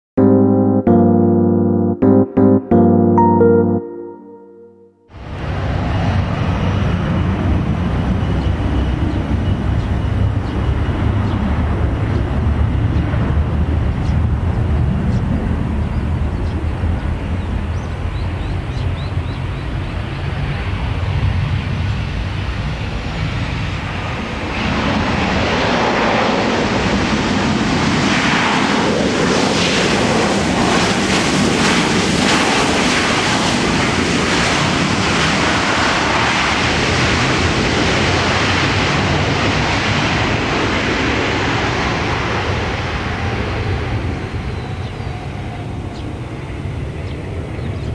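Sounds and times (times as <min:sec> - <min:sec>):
jet landing roar: 0:05.2 - 0:47.7
jet engines rumbling and whining: 0:05.2 - 0:47.9.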